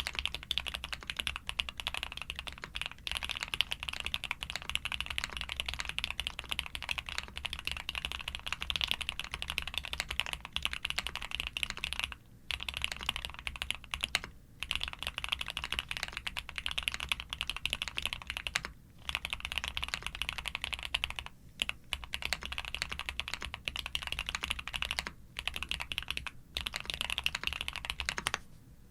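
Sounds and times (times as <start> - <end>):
mechanical keyboard typing: 0.0 - 28.4.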